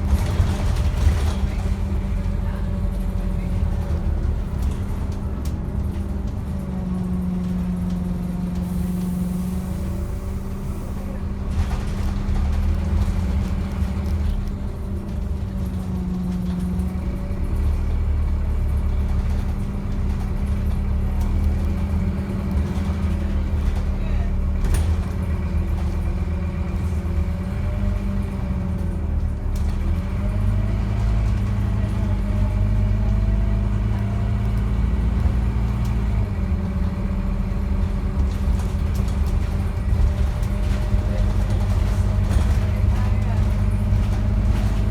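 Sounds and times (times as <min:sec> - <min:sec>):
bus engine drone: 0:00.0 - 0:44.9.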